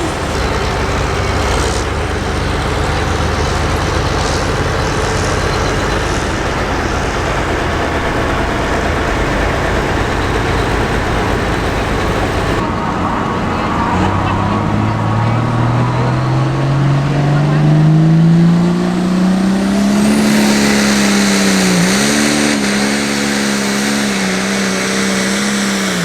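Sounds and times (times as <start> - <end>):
engine revving up: 0.0 - 26.0
tractor diesel engine under load: 0.0 - 26.0.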